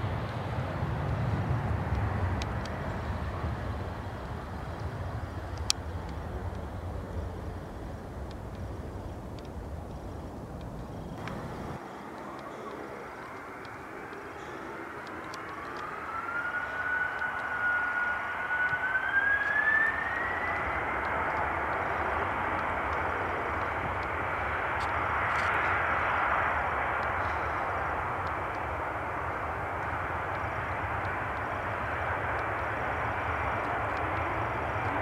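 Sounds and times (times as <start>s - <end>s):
jet engines passing: 0.0s - 35.0s.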